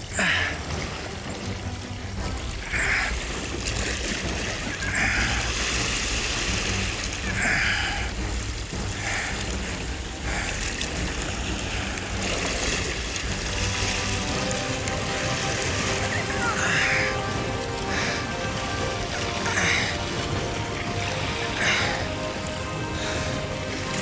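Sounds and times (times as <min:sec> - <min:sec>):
sea water lapping and splashing: 0:00.0 - 0:24.0.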